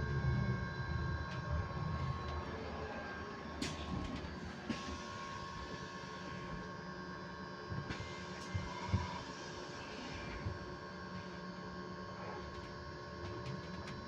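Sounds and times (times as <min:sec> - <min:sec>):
electric bus whine: 0:00.0 - 0:14.0.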